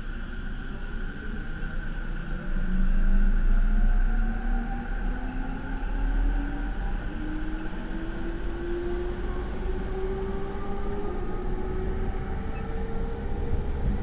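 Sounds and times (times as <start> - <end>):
wheels rumbling on rails: 0.0 - 14.0.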